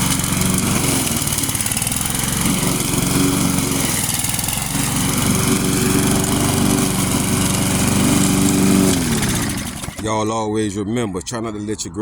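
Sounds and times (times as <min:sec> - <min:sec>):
lawn mower engine cutting grass: 0:00.0 - 0:10.2.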